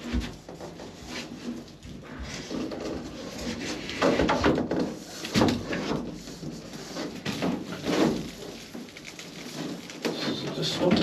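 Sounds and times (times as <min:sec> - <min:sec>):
plastic sheet creaking and rubbing: 0:00.0 - 0:11.0
scraping: 0:00.0 - 0:11.0.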